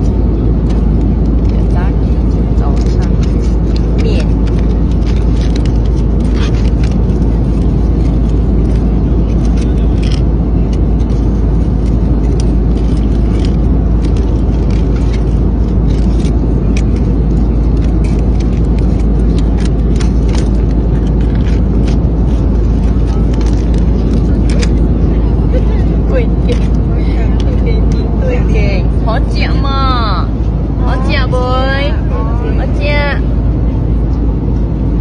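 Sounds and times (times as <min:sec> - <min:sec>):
airliner cabin roar: 0:00.0 - 0:35.0.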